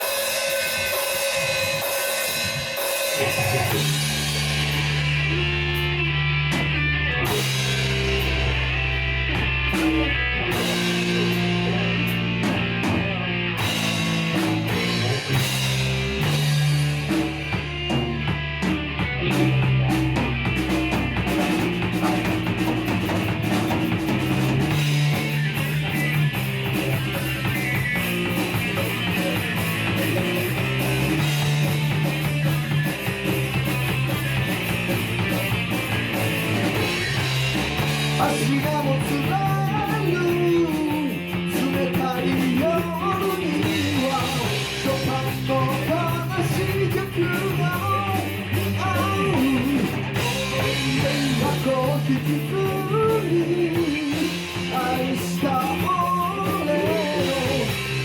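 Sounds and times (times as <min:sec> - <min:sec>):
rock band instrumental: 0:00.0 - 0:58.0.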